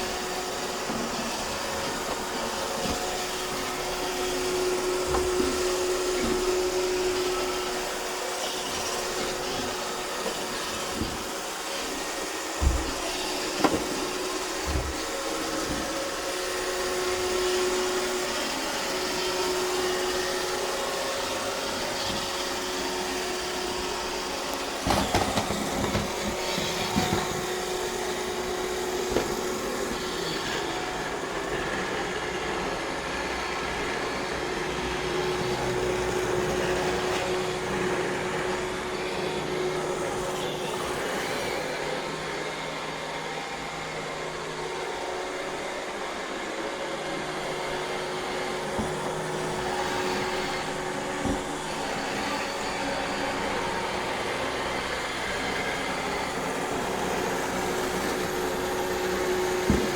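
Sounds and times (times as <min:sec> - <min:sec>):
robot vacuum motor hum: 0:00.0 - 0:59.9.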